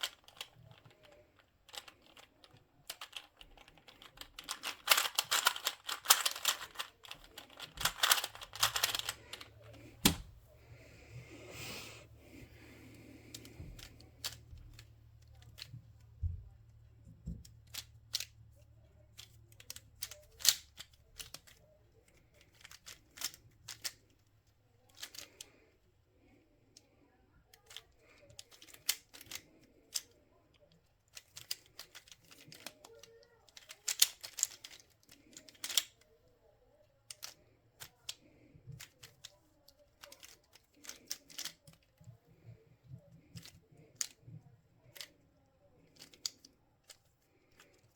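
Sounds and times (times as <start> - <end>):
puzzle cube clicking turns: 0.0 - 15.9, 17.3 - 18.4, 19.1 - 24.3, 24.9 - 25.6, 27.6 - 30.2, 31.1 - 36.0, 37.1 - 42.5, 43.2 - 45.2, 45.8 - 47.9.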